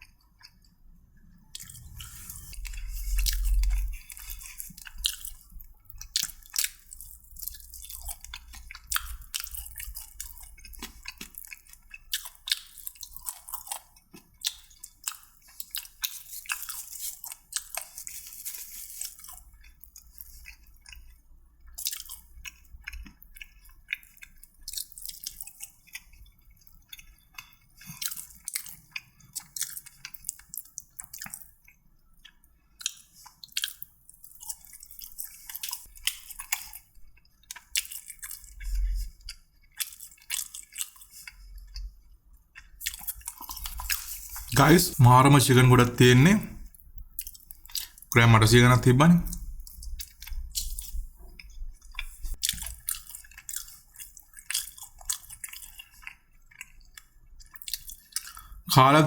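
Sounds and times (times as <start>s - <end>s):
chewing and biting food: 0.0s - 59.0s.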